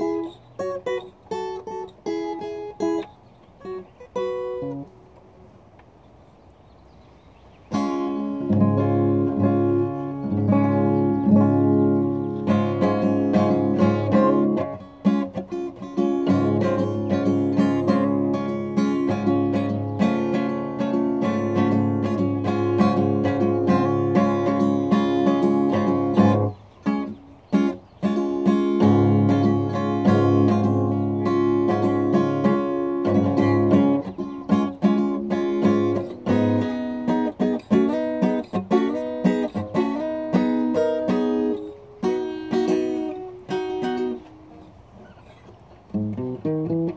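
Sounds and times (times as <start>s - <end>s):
acoustic guitar strumming chords: 0.0s - 5.3s, 7.7s - 46.9s.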